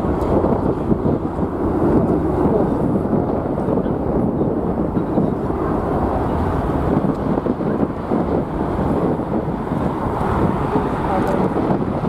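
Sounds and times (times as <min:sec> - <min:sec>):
jet engine rumble: 0:00.0 - 0:12.0
wind buffeting microphone: 0:00.0 - 0:12.0.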